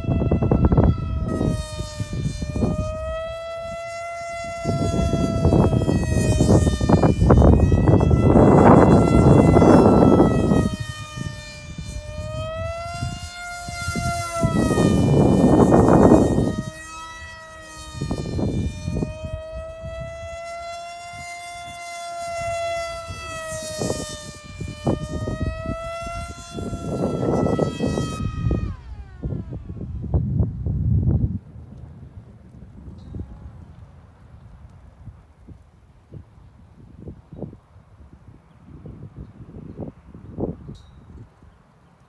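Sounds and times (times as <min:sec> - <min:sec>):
wind gusts on microphone: 0:00.0 - 0:41.8
electric motor and propeller whine: 0:00.0 - 0:42.0.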